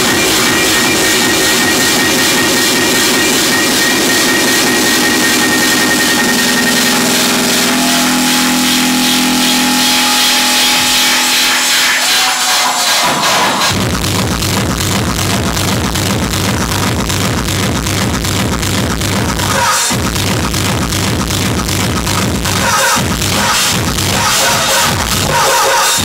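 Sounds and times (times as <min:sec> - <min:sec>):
hard techno over sound system: 0:00.0 - 0:26.0.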